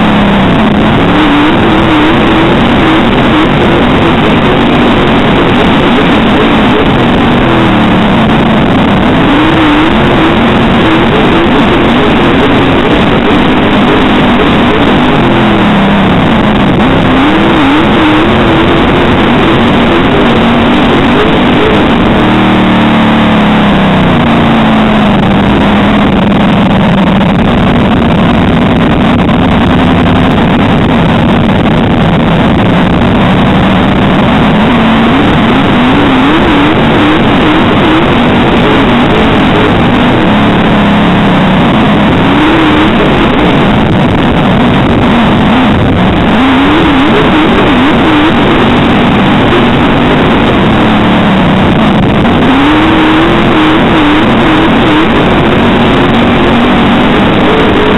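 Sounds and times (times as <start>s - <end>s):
race car engine at racing load: 0.0s - 57.9s.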